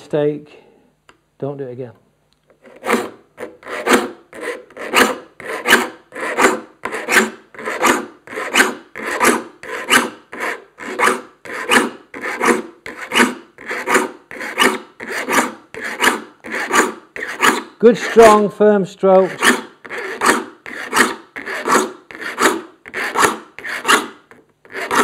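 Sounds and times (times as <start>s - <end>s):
saw file rasping on saw teeth: 2.6s - 18.4s, 19.2s - 25.0s.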